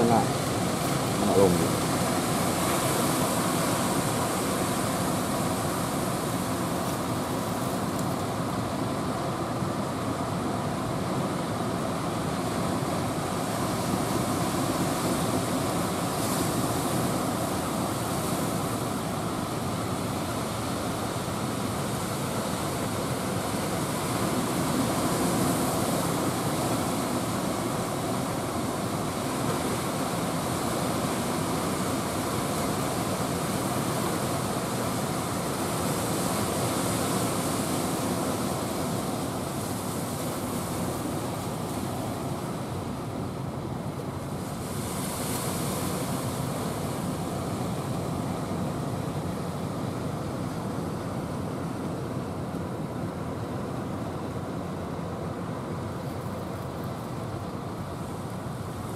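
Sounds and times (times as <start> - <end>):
waves breaking: 0.0 - 58.9.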